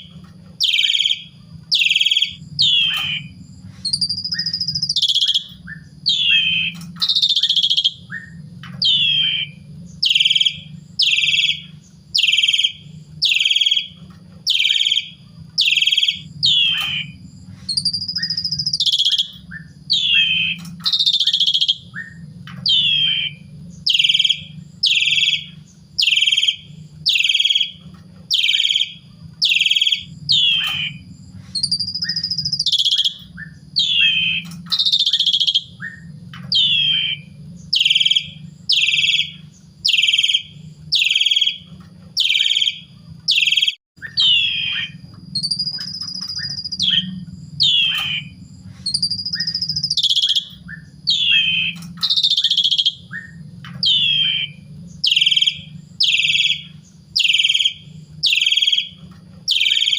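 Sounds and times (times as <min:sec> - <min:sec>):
low steady hum: 0:00.0 - 0:43.4, 0:44.0 - 0:59.9
starling whistling song: 0:00.0 - 0:59.9.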